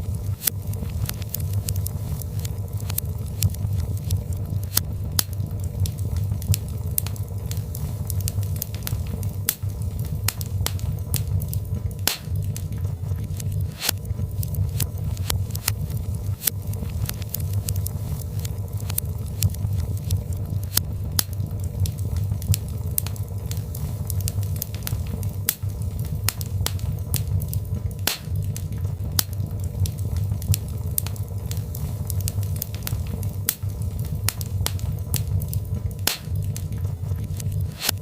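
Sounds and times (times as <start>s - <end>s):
fire low rumble: 0.0s - 38.0s
logs crackling and popping: 0.0s - 38.0s.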